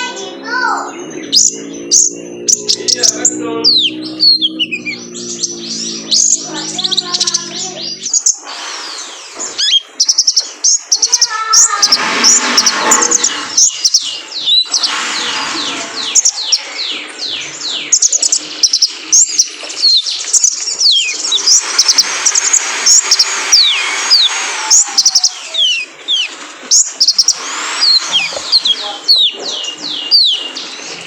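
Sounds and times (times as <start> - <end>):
bird twittering: 0.0 - 31.0.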